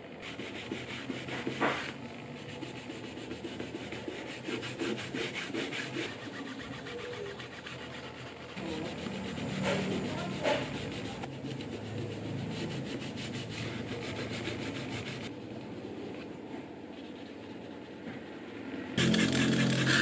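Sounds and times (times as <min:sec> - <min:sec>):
sandpaper rubbing on leather: 0:00.2 - 0:15.3, 0:19.0 - 0:20.0.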